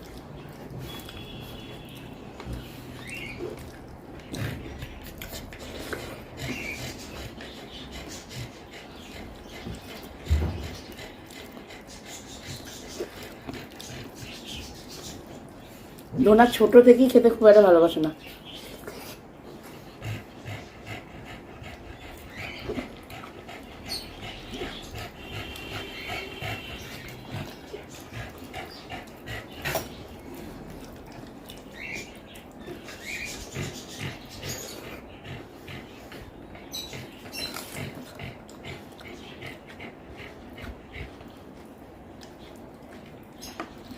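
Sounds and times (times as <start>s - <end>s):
chewing and mouth sounds: 0.0s - 8.1s, 9.2s - 16.2s, 22.1s - 43.9s.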